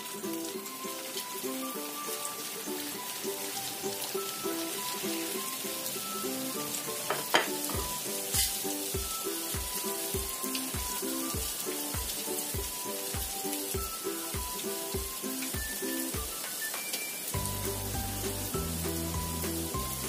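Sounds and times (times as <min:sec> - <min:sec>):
background music: 0:00.0 - 0:20.0
food sizzling in hot oil: 0:00.0 - 0:20.0.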